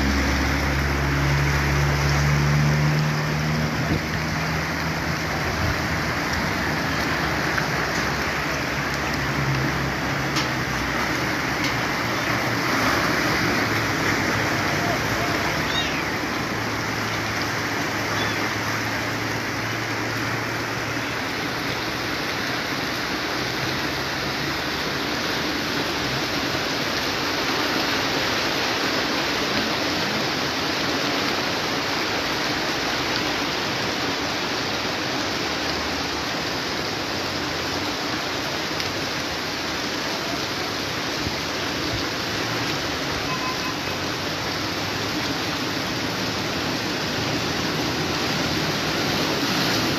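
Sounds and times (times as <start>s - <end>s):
floodwater rushing: 0.0s - 49.9s.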